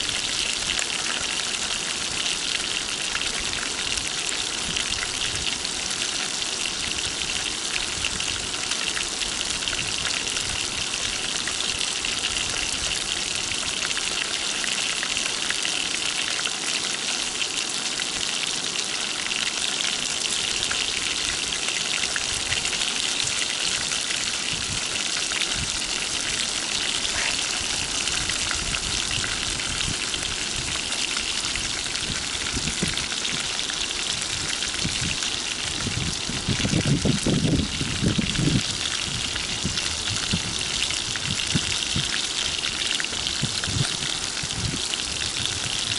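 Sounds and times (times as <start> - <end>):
fish frying in sizzling oil: 0.0 - 45.9.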